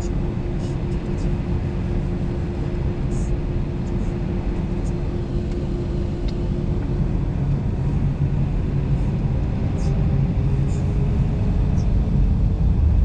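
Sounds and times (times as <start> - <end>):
faint engine hum: 0.0 - 13.0
jet engines rumbling: 0.0 - 13.0.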